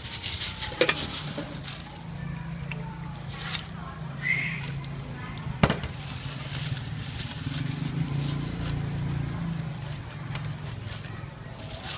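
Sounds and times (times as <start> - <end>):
low steady engine hum: 0.0 - 11.9.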